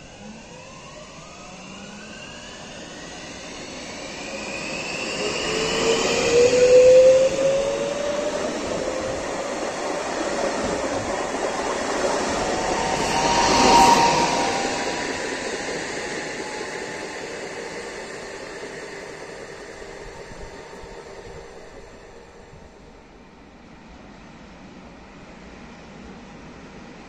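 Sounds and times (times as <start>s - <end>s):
electric train traction whine: 0.0s - 23.1s
train rolling noise: 0.0s - 27.0s.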